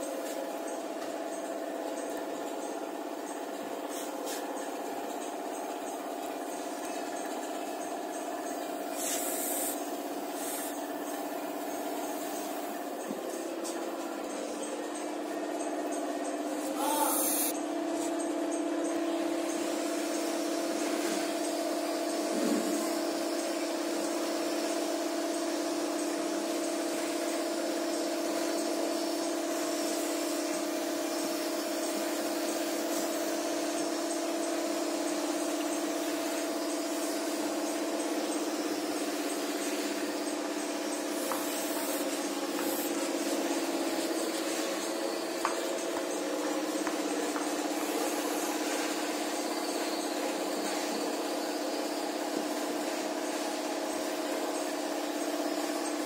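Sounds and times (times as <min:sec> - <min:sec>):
machine humming: 0:00.0 - 0:17.7, 0:18.7 - 0:56.0.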